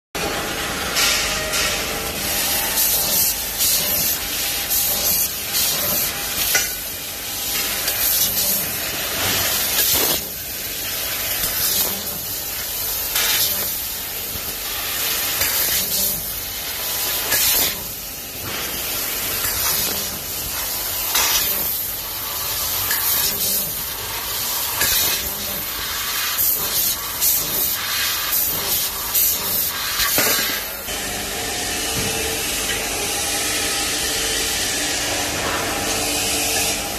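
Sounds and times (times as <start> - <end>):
laser cutting machine hissing: 1.0 - 36.9.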